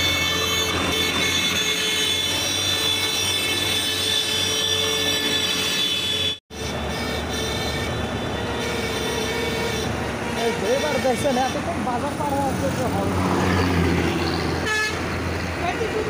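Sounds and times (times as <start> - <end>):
tractor engines running: 0.0 - 16.0.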